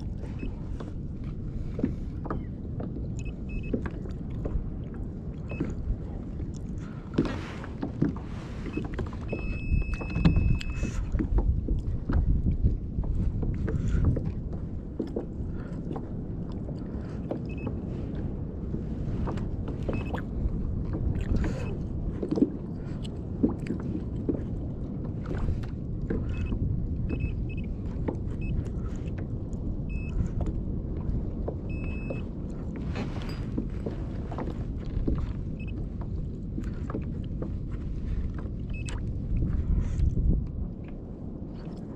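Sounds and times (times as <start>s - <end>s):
water sloshing against kayak hull: 0.0s - 41.9s
wind rumbling on microphone: 0.0s - 41.9s.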